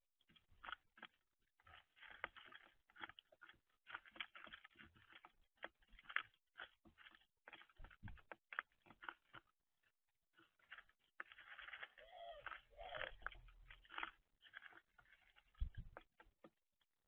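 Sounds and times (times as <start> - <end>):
beaks tapping on seeds: 0.2 - 17.0.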